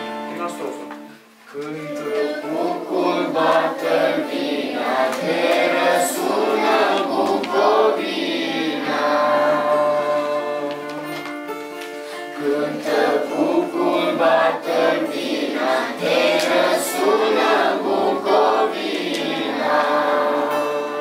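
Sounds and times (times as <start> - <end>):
acoustic guitar: 0.0 - 21.0
children singing: 1.6 - 11.3, 12.4 - 21.0.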